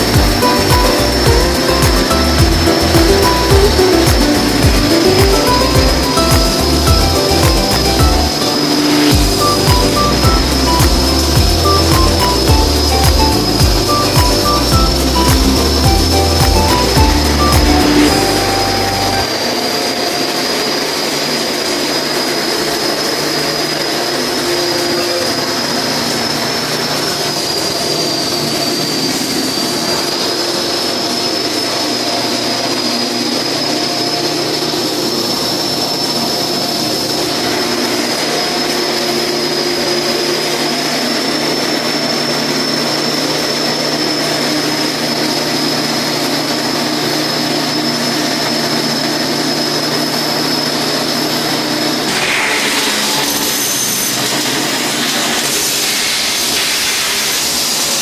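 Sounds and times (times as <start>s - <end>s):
high whine: 0.0s - 58.0s
welding hiss: 0.0s - 58.0s.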